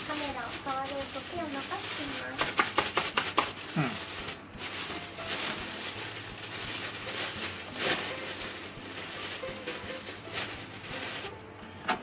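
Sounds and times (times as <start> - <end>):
cat litter rustling: 0.0 - 12.0.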